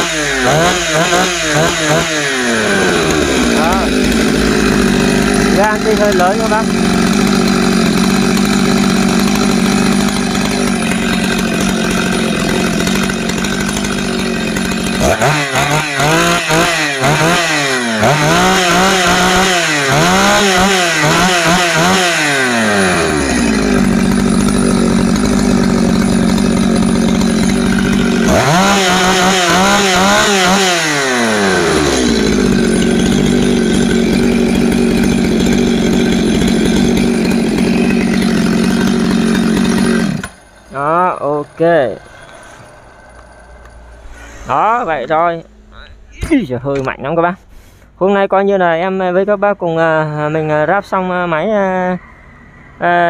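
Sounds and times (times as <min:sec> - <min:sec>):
chainsaw idling and revving: 0:00.0 - 0:45.7.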